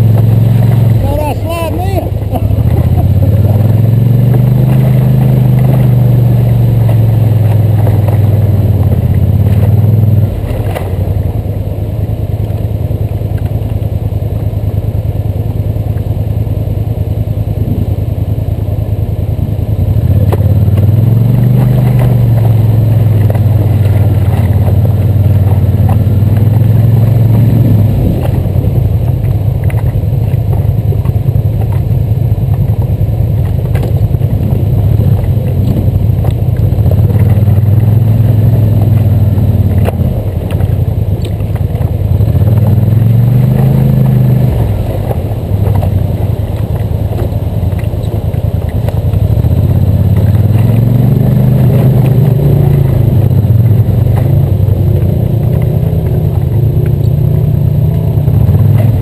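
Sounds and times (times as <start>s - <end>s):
atv engine idling and revving: 0.0s - 59.0s.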